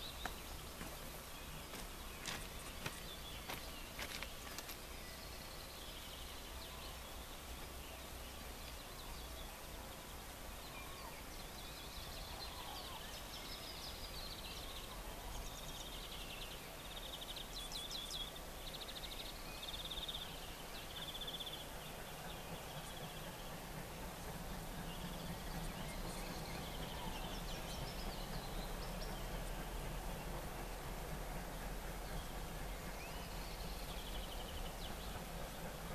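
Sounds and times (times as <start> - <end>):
birds singing: 0.0 - 35.9.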